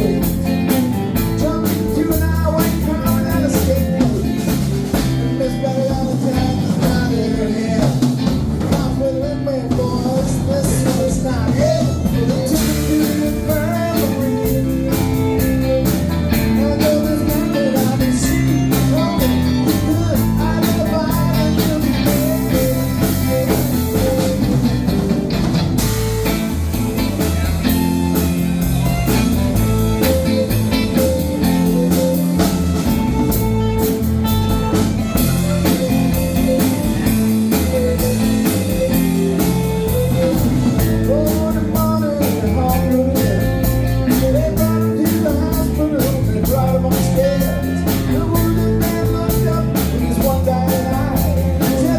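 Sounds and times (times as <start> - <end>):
live blues-rock band: 0.0 - 51.9.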